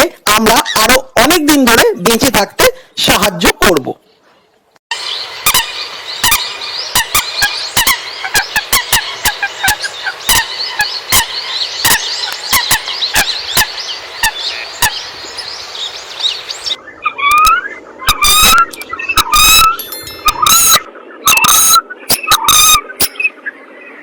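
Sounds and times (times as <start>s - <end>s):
coots calling: 4.1s - 24.0s.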